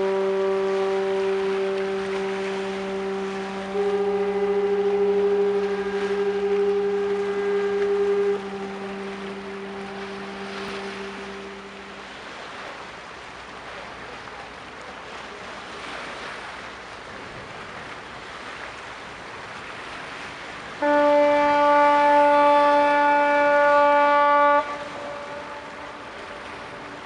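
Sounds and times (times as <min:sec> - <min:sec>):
ship's horn blast: 0:00.0 - 0:27.0
wind and water hiss: 0:00.0 - 0:27.0.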